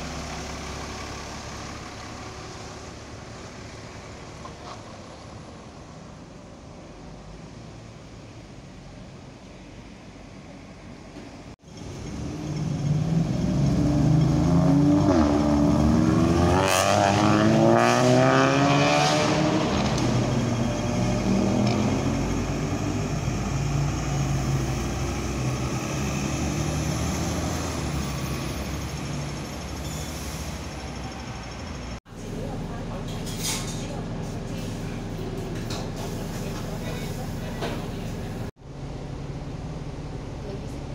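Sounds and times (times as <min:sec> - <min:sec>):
bus engine accelerating past: 0:00.0 - 0:40.9.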